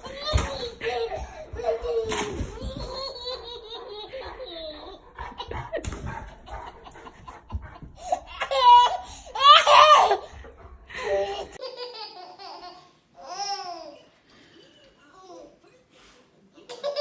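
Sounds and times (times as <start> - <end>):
baby laughing: 0.0 - 14.1, 16.6 - 17.0.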